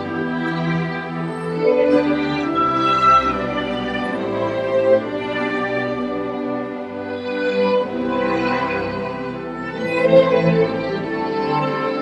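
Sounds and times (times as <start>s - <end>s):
bowed strings: 0.0s - 12.0s
orchestra holding sustained notes: 0.0s - 12.0s.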